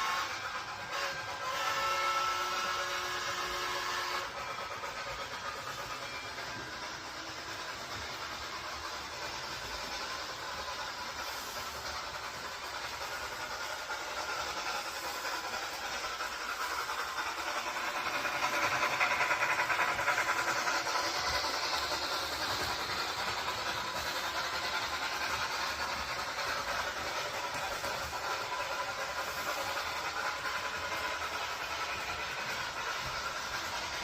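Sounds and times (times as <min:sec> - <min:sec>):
train rushing hiss: 0:00.0 - 0:34.0.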